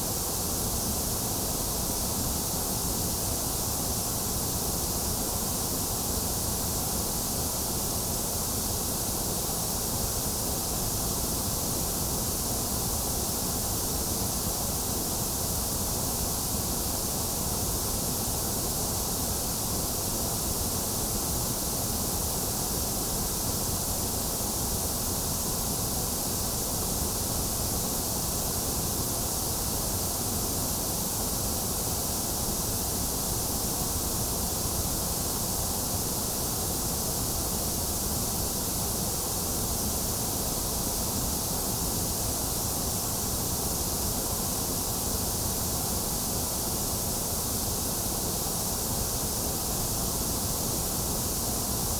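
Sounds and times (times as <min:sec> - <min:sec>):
white noise hiss: 0:00.0 - 0:51.9.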